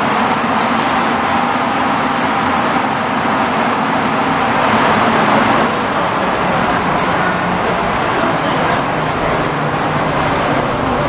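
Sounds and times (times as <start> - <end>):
funicular cable running over pulleys: 0.0 - 11.0.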